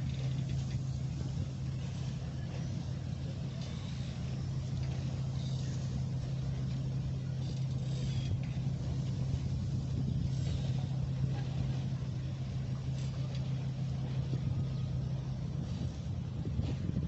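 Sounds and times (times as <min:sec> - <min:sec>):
faint rumbling water wash: 0:00.0 - 0:17.0
ship engines humming: 0:00.0 - 0:17.0.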